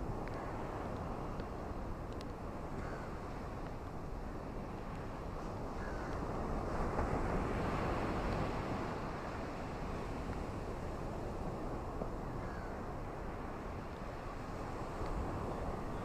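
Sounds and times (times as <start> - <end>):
ocean surf on a beach: 0.0 - 16.0.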